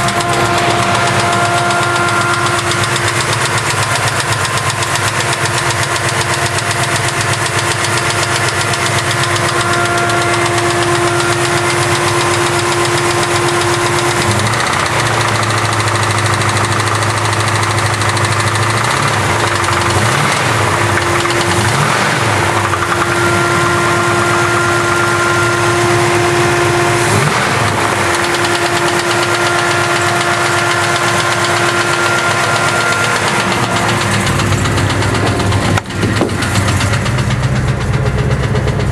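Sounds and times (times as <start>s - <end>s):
engine running with regular tick: 0.0s - 38.9s.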